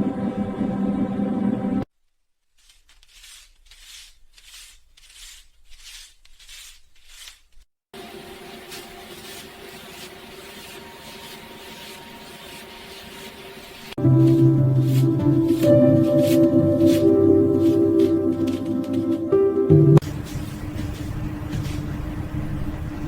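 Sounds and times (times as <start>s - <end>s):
paper banknotes rustling: 2.4s - 22.8s.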